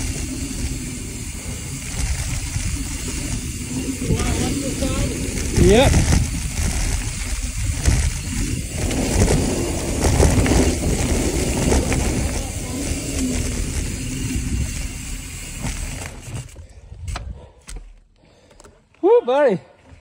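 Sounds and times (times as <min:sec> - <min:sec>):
wind buffeting microphone: 0:00.0 - 0:17.1
bike tyres rolling on dirt: 0:00.0 - 0:17.2.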